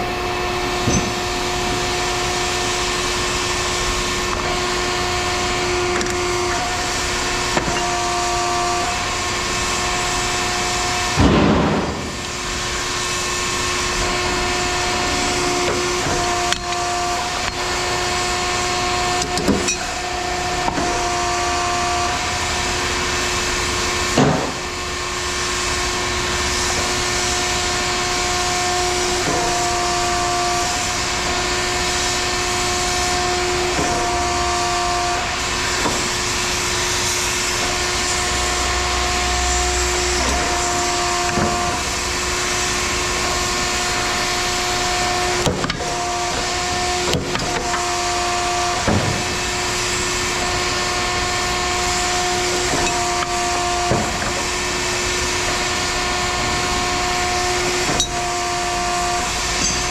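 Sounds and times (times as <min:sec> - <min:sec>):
machine whining: 0:00.0 - 0:59.9.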